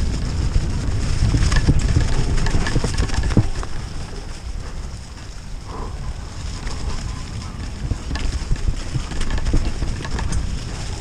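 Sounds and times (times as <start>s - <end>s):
bike rattling over bumps: 0.0s - 11.0s
tyres rolling through leaves: 0.0s - 11.0s
wind rumble on microphone: 0.0s - 11.0s.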